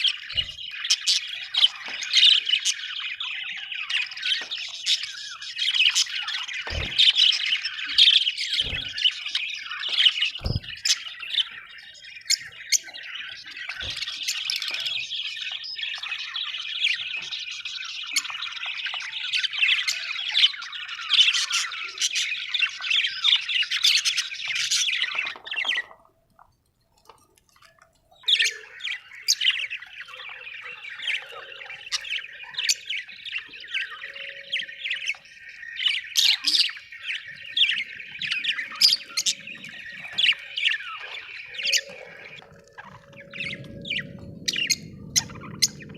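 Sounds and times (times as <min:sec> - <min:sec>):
budgerigars chattering and warbling: 0:00.0 - 0:26.1, 0:28.2 - 0:45.9.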